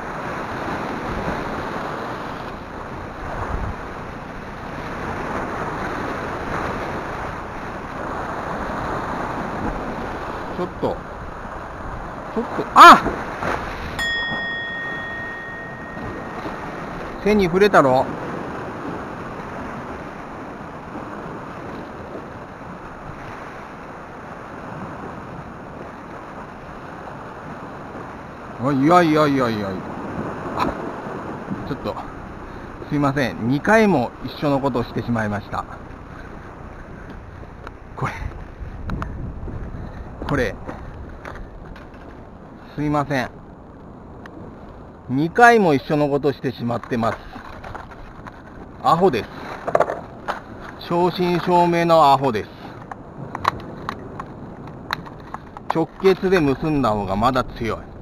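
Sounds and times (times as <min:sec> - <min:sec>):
wind buffeting microphone: 0:00.0 - 0:46.0, 0:46.7 - 0:58.0
sea surf breaking over rocks: 0:00.0 - 0:58.0.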